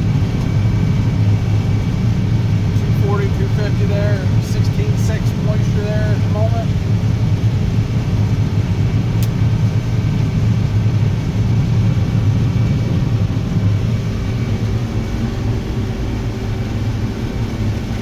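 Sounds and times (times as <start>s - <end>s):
combine harvester low drone: 0.0s - 18.0s.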